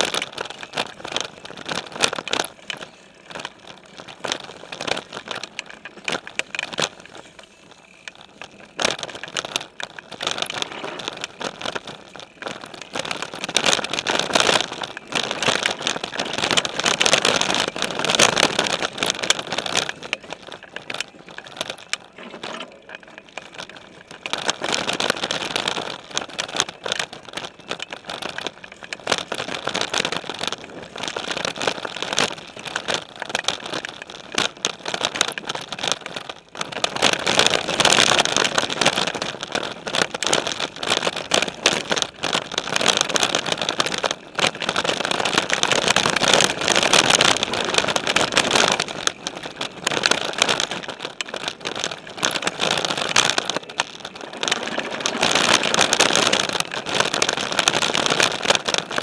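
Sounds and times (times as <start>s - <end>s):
tyres crunching through leaves: 0.0s - 32.7s, 36.6s - 59.0s
bike rattling and clicking: 0.0s - 59.0s.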